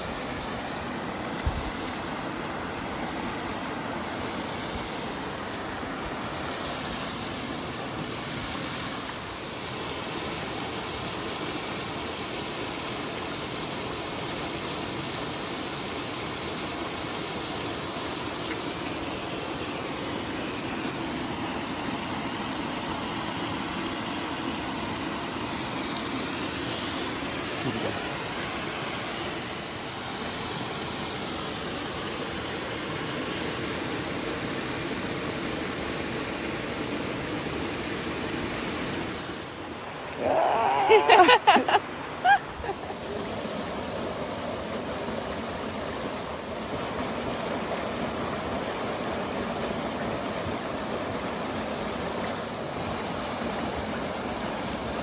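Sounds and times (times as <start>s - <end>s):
waterfall splashing into pool: 0.0s - 55.0s.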